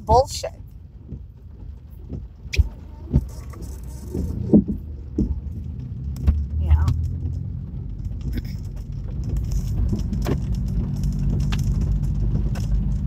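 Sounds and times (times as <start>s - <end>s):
motor rumble and hum: 0.0s - 13.0s.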